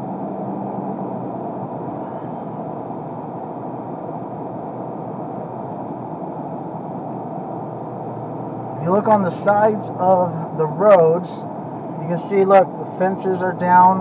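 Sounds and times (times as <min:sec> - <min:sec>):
car engine and road noise: 0:00.0 - 0:14.0
faint hum: 0:00.0 - 0:14.0.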